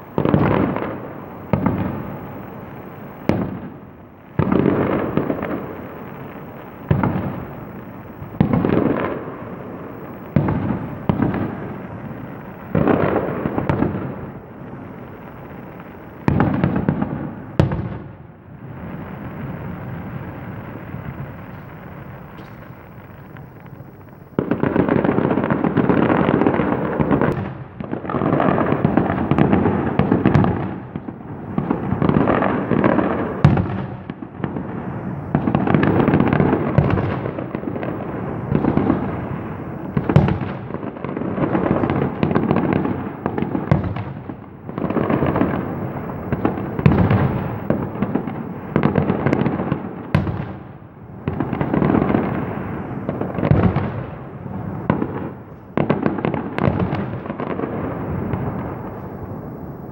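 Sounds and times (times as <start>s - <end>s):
firework bangs: 0.0s - 59.9s
fireworks crackling: 0.0s - 59.9s.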